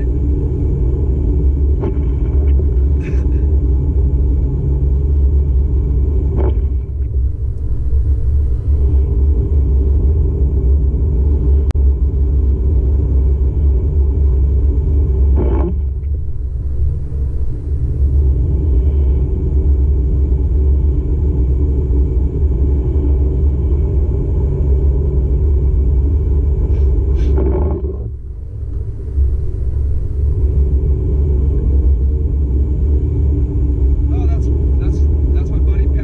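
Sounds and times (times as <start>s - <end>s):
car cabin road rumble: 0.0s - 36.0s.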